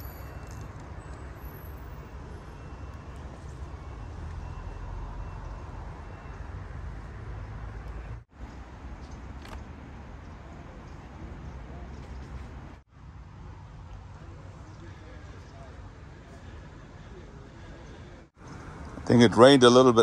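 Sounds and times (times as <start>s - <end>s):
low rumble of city traffic: 0.0s - 20.0s.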